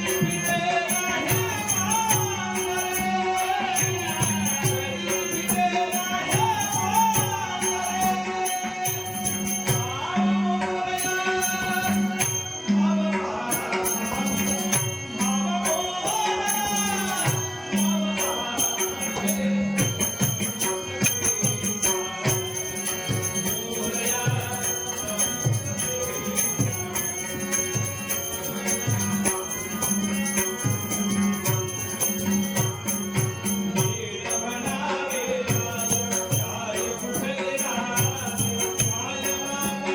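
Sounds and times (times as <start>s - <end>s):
man singing devotional song: 0.0s - 39.9s
small jingling cymbals: 0.0s - 39.9s.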